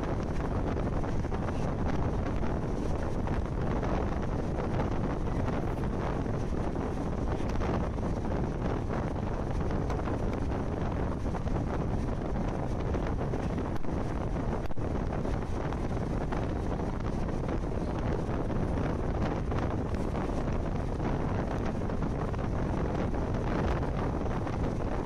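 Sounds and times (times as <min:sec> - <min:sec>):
train running on track: 0:00.0 - 0:25.0
wind buffeting microphone: 0:00.0 - 0:25.0.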